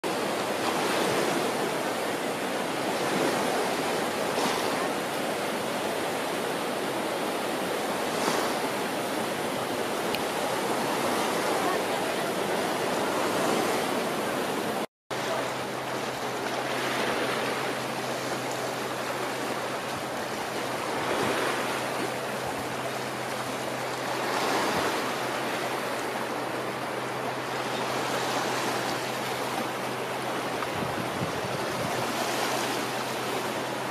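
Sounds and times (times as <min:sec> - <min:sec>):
small waves lapping at shore: 0:00.0 - 0:33.9.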